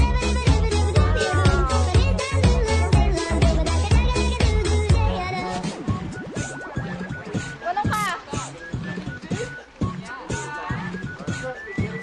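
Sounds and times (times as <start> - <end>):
dance music with bass line: 0.0 - 12.0.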